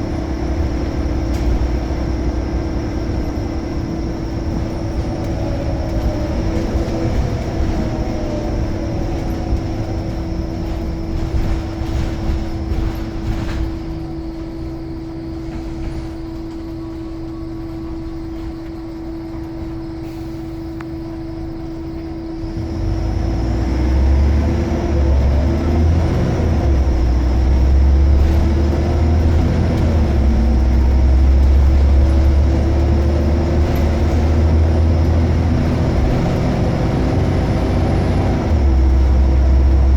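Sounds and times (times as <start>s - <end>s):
bus diesel engine running: 0.0s - 39.9s
steady whine: 0.0s - 39.9s.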